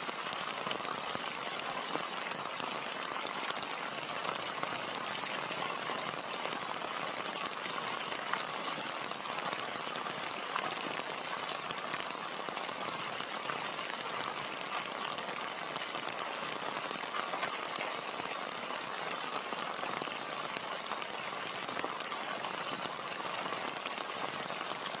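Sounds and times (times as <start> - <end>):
rain drops pattering: 0.0 - 25.0.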